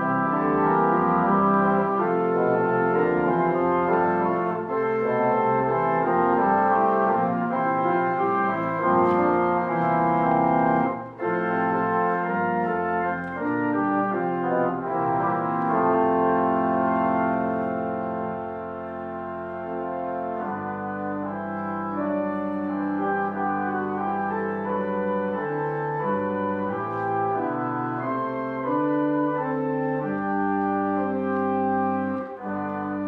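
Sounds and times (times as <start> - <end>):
brassy instrumental music: 0.0 - 33.0.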